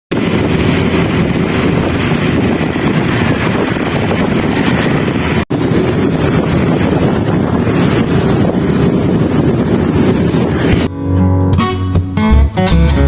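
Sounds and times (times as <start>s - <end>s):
wind buffeting microphone: 0.1s - 10.9s.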